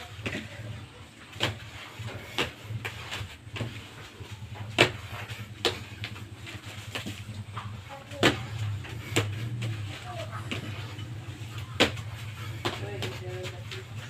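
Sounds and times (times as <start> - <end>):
hands and feet slapping tiled floor: 0.0 - 14.0
low steady hum: 0.0 - 14.0.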